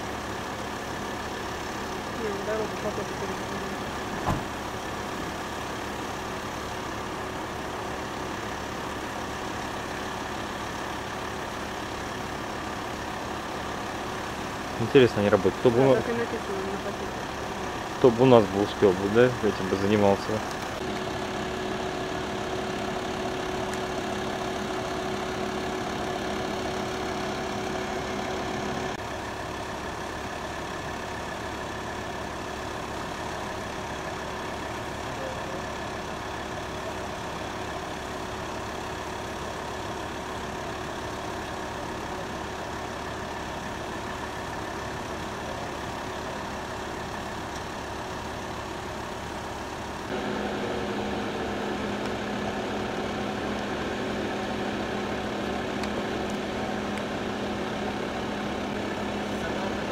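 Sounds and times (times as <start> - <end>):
vehicle engine idling: 0.0 - 59.9.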